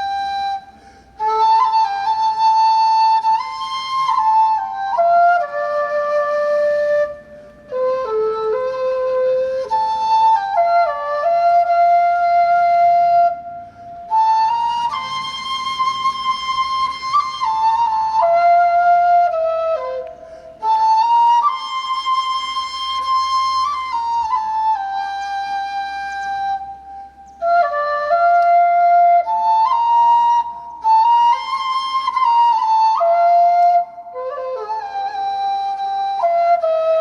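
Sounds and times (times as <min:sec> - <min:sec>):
flute playing slow melody: 0:00.0 - 0:37.0.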